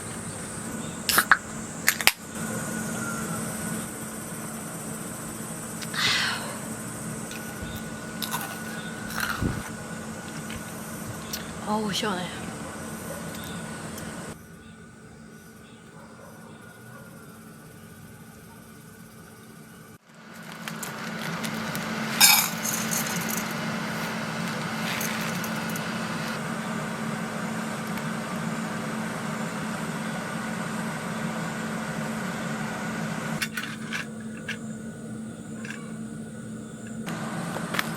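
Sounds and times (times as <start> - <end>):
air conditioner humming: 0.0 - 37.9.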